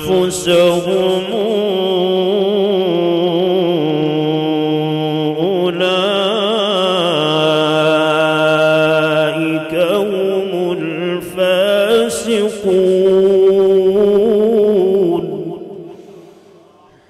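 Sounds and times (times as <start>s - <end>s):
man reciting in melodic chant: 0.0s - 17.0s.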